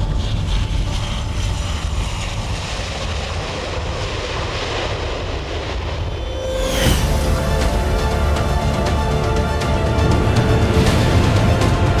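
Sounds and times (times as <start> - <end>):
turboprop engines running: 0.0 - 12.0.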